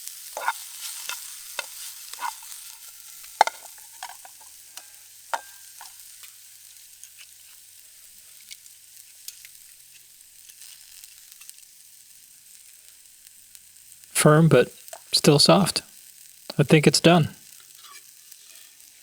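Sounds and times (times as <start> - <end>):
steak sizzling in a pan: 0.0 - 14.1, 14.7 - 19.0.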